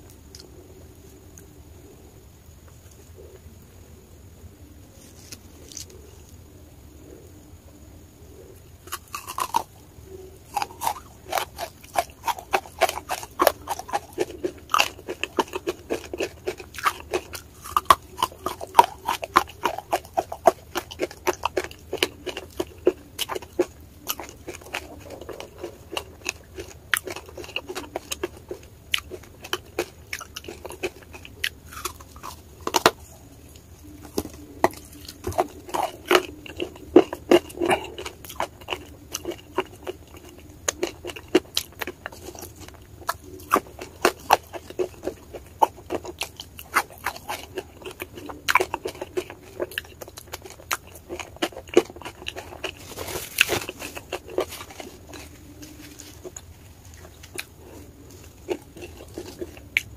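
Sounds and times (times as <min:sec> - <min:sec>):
chewing crunchy chalk: 0:08.9 - 0:09.8, 0:10.5 - 0:59.9.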